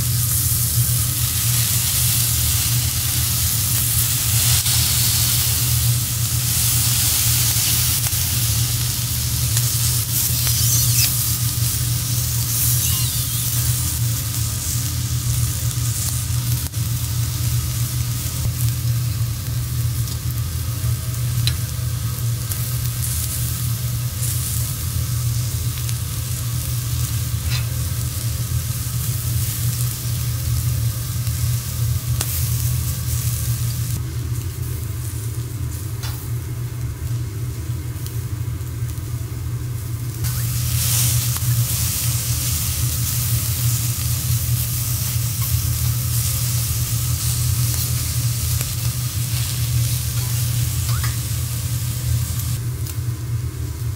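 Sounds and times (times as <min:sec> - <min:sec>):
seafood sizzling on a steel griddle: 0:00.0 - 0:53.9
steady low hum: 0:00.0 - 0:53.9.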